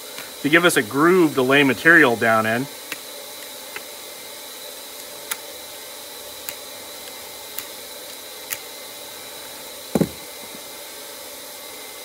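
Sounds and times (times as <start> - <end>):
hot-air gun hissing: 0.0 - 12.0.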